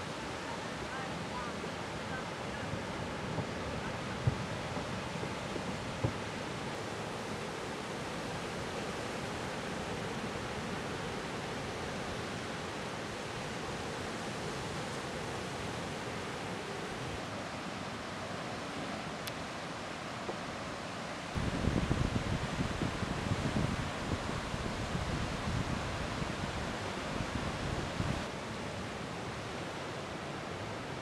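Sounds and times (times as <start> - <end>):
ocean surf rushing: 0.0 - 31.0.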